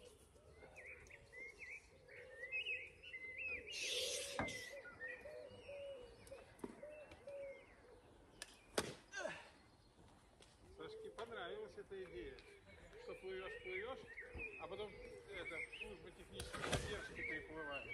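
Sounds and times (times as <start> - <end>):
birds singing: 0.0 - 17.9.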